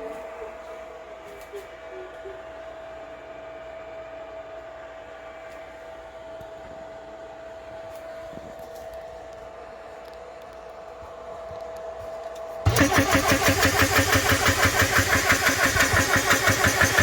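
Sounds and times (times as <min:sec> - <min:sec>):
small electric fan whirring: 0:00.0 - 0:17.0.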